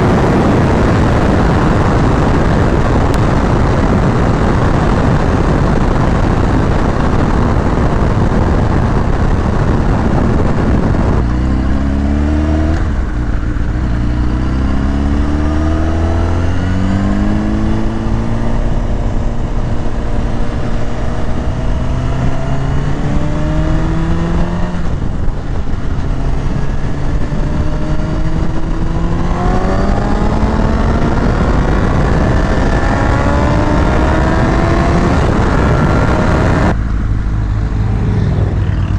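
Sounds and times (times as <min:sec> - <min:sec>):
motorcycle engine under load: 0:00.0 - 0:38.9
wind noise on microphone: 0:00.0 - 0:38.9.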